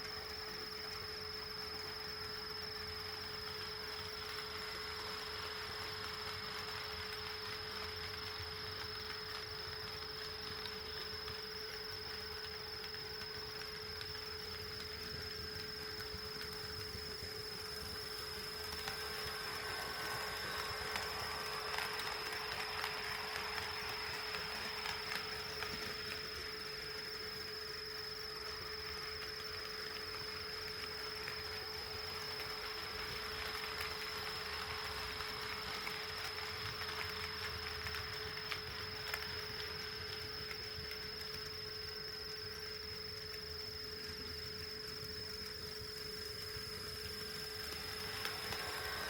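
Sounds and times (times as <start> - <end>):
high-pitched electrical whine: 0.0 - 49.0
model train running on track: 0.0 - 49.0.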